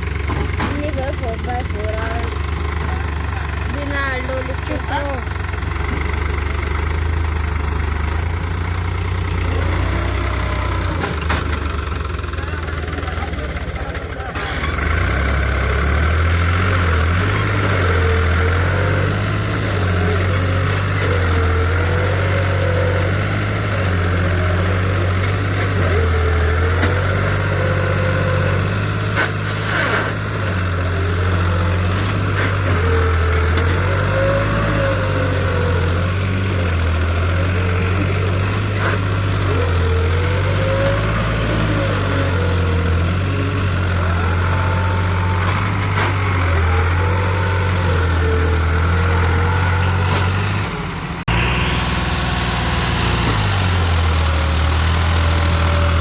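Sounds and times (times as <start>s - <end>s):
tractor diesel engine straining: 0.0s - 56.0s.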